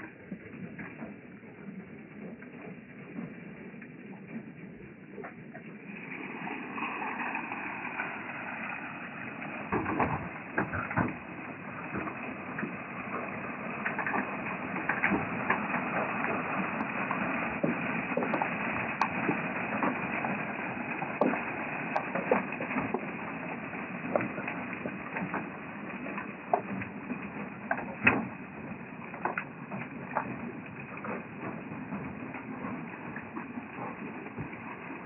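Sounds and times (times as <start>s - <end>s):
water rushing and splashing: 5.0s - 35.0s
gravel clattering on a screen: 5.2s - 35.0s.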